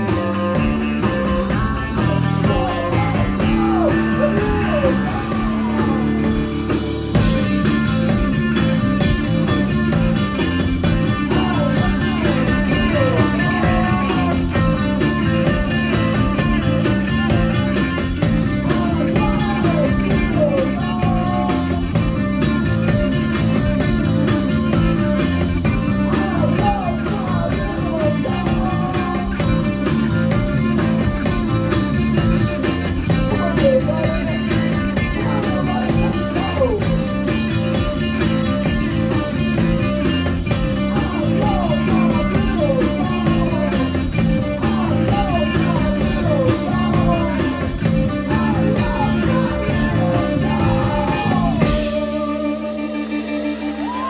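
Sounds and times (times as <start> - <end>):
person singing: 0.0 - 8.1, 11.0 - 23.8, 25.8 - 31.5, 32.4 - 54.0
rock band playing live: 0.0 - 54.0.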